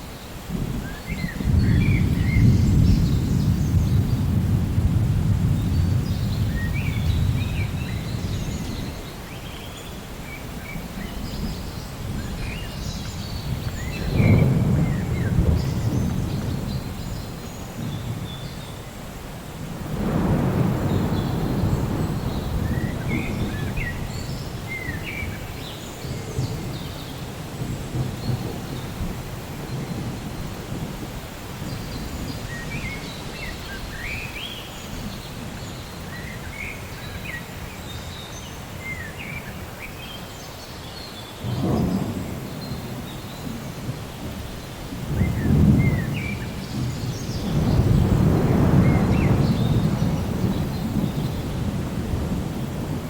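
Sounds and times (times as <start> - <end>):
steady rain: 0.0 - 53.0
rolling thunder: 0.4 - 9.1, 10.6 - 37.1, 41.4 - 53.0.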